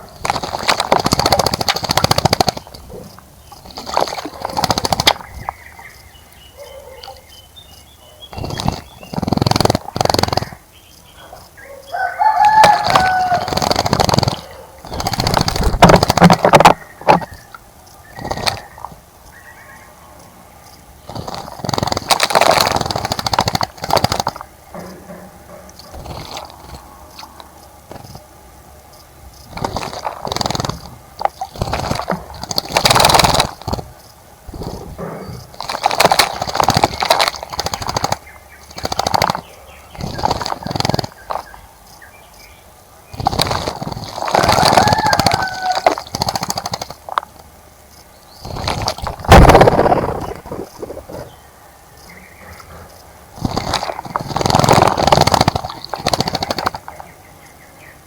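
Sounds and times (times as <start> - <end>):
wings fluttering: 0.0 - 6.0, 8.3 - 19.1, 20.7 - 28.3, 29.3 - 41.7, 43.1 - 51.4, 53.3 - 57.2
birds splashing in water: 0.0 - 7.3, 8.3 - 10.8, 11.4 - 19.2, 20.9 - 28.3, 29.4 - 41.7, 43.0 - 47.6, 48.3 - 51.4, 52.4 - 57.5.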